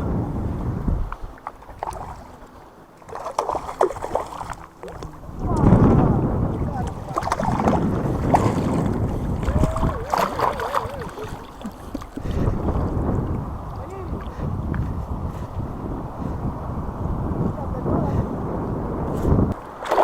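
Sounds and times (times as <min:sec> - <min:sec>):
moving water: 0:00.0 - 0:20.0
wind buffeting microphone: 0:00.0 - 0:20.0.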